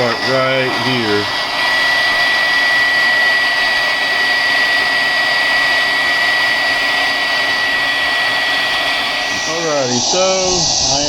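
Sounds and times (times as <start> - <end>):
heat gun blower whining: 0.0 - 11.0.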